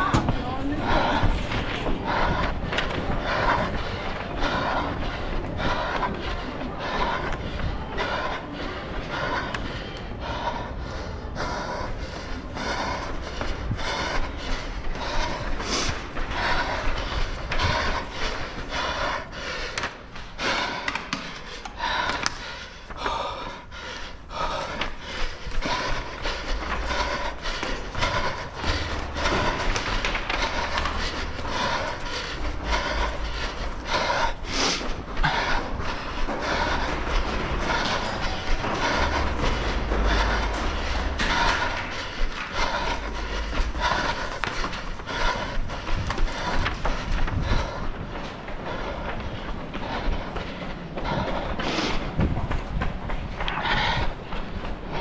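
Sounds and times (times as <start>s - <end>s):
person breathing: 0.0s - 55.0s
running footsteps on hard floor: 0.0s - 55.0s.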